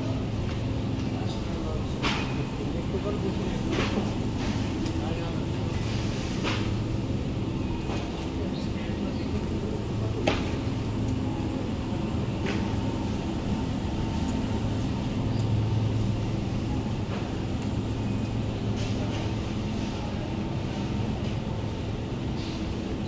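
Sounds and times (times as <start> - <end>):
store background hum: 0.0 - 23.0.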